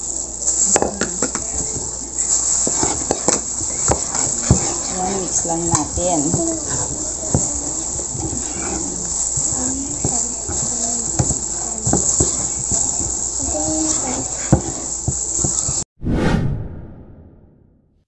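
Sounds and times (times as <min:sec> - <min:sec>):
whisk clicking against bowl: 0:00.7 - 0:15.8.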